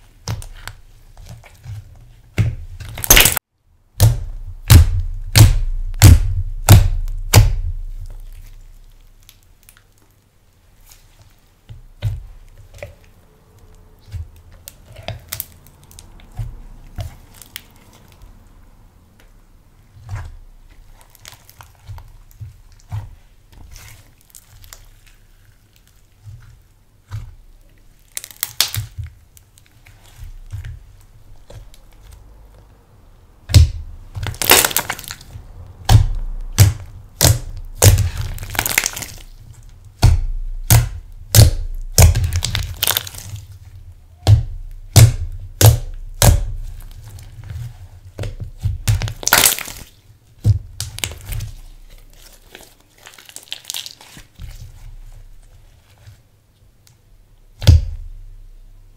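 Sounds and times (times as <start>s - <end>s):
slime crackling and popping: 0.0s - 3.4s, 4.0s - 18.2s, 20.0s - 32.7s, 33.5s - 56.0s
slime squishing: 0.0s - 56.8s.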